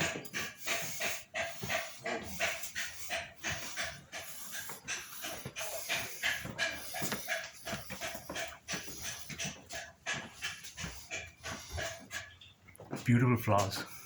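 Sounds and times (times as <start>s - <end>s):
rapid panting: 0.0s - 14.0s.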